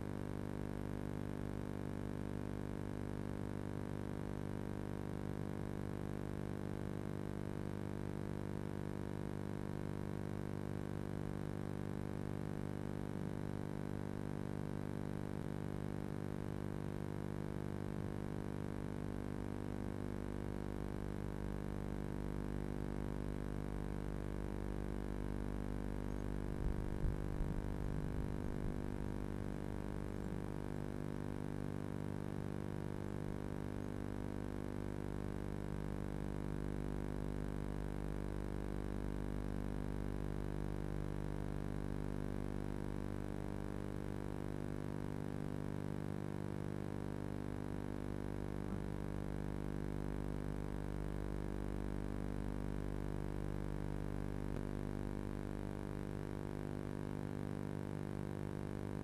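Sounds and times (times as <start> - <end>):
electrical mains hum: 0.0 - 36.8, 48.2 - 59.0.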